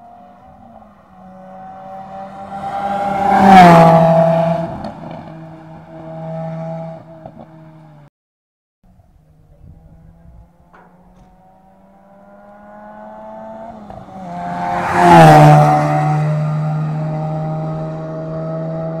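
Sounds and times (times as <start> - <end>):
car engine passing at speed: 0.0 - 8.1, 9.3 - 19.0.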